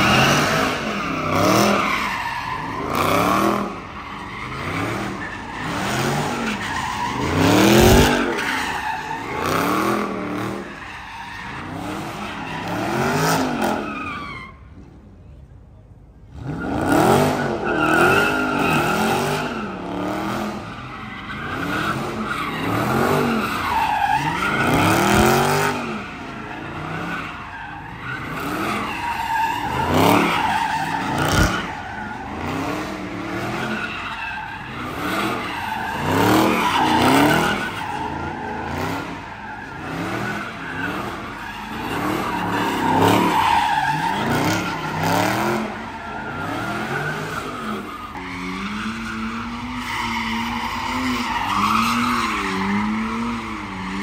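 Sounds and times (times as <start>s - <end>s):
tires squealing and skidding: 0.0s - 15.0s, 16.2s - 54.0s.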